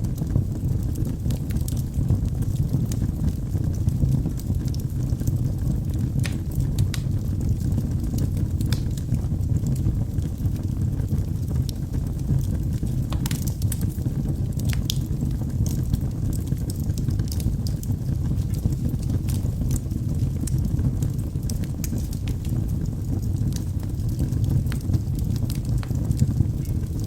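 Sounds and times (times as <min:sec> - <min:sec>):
fire crackling and popping: 0:00.0 - 0:27.0
wood fire burning: 0:00.0 - 0:27.0.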